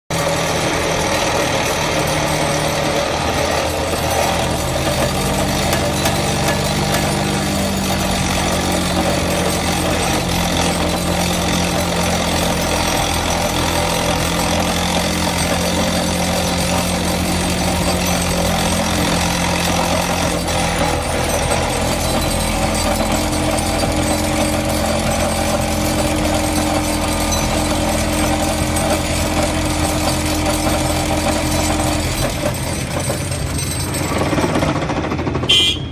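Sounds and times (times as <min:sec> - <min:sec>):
engine and hydraulic hum: 0:00.1 - 0:35.9
vibratory pile hammer rattling: 0:00.1 - 0:35.9.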